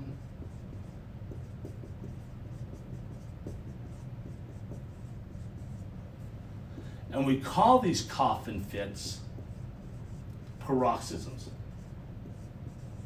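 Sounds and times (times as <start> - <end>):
low room hum: 0.0 - 13.0
marker scratching on whiteboard: 0.0 - 13.0.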